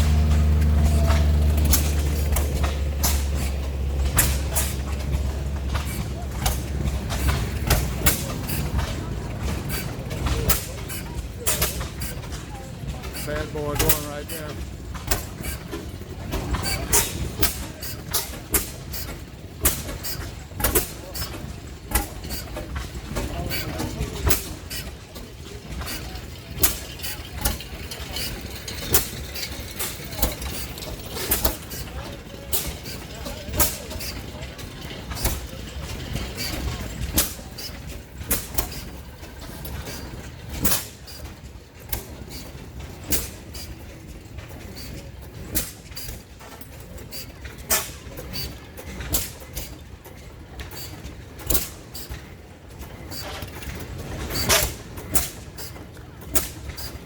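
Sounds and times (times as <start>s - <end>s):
old engines exhaust pops: 0.0s - 57.0s
steady low engine rumble: 0.0s - 57.0s.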